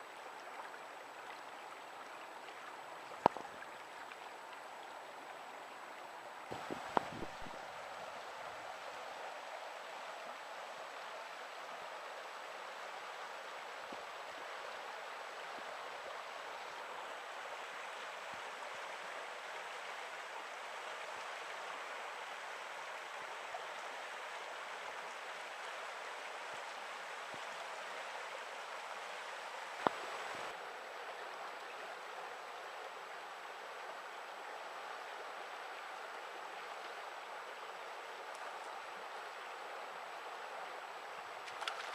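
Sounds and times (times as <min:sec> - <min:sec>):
river running over stones: 0:00.0 - 0:41.9.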